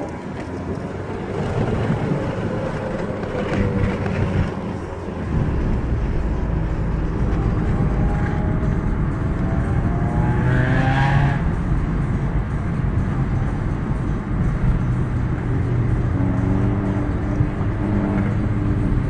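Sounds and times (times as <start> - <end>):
car accelerating: 0.0 - 19.0
car engines running roughly: 0.0 - 19.0.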